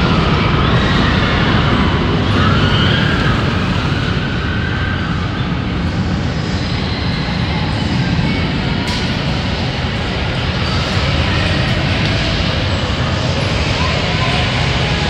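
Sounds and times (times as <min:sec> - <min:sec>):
spinning ride rumble and hiss: 0:00.0 - 0:15.0.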